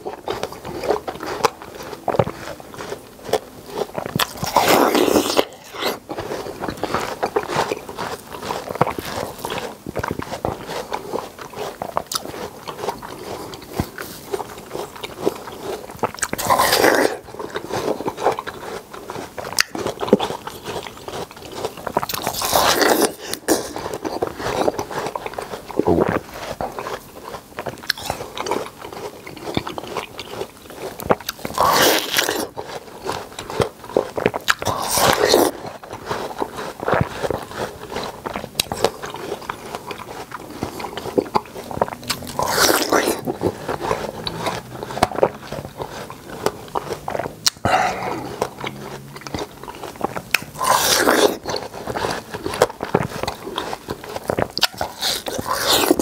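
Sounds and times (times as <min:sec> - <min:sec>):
biting and chewing watermelon: 0:00.0 - 0:56.0.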